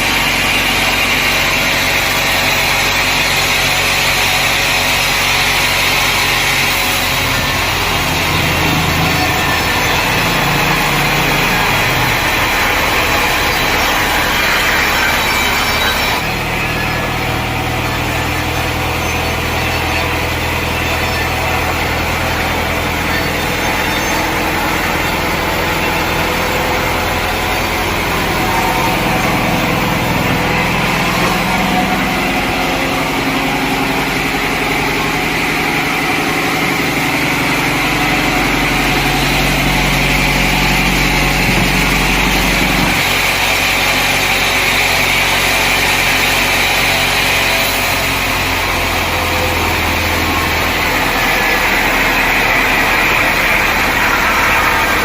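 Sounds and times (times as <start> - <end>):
engine running under load: 0.0 - 55.0
sawmill saw cutting through a log: 0.0 - 55.0.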